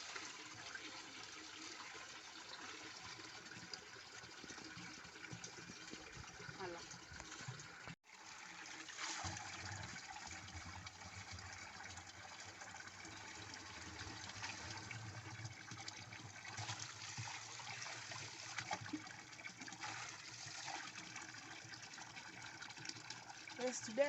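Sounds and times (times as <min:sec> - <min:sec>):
water running: 0:00.0 - 0:24.0.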